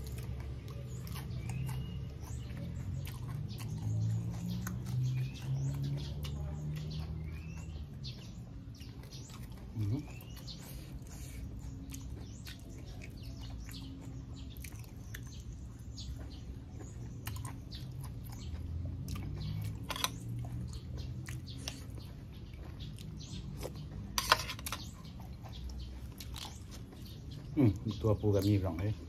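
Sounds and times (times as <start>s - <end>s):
man chewing wetly: 0.0s - 28.0s.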